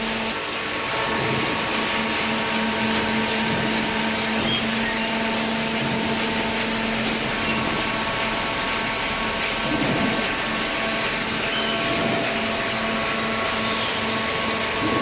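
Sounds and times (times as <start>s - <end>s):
baler machine hum: 0.0s - 15.0s.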